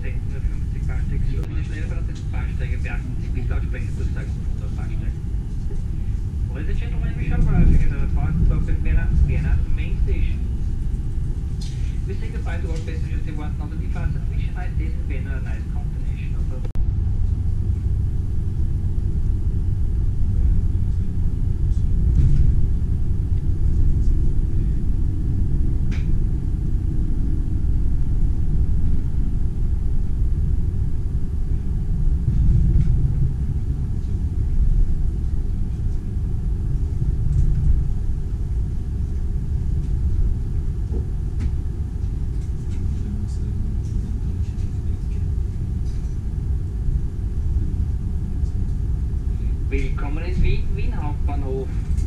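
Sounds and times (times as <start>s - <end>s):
train rumbling inside carriage: 0.0s - 52.0s.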